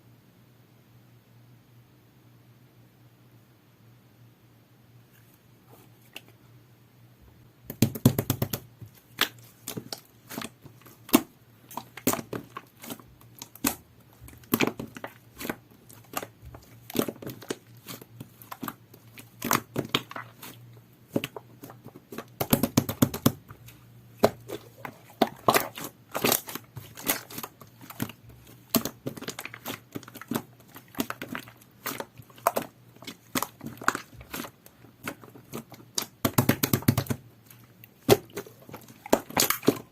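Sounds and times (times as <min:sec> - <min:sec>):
slime squishing with sticky pops: 0:07.7 - 0:39.9.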